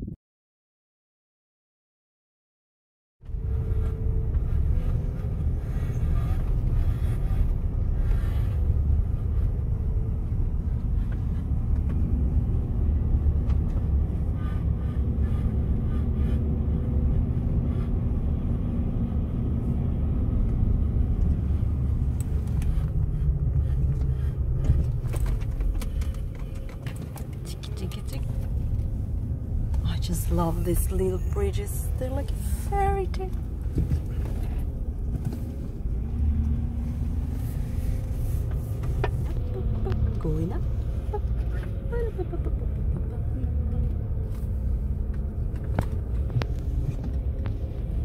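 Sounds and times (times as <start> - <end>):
engine and road noise rumble: 3.2 - 48.0.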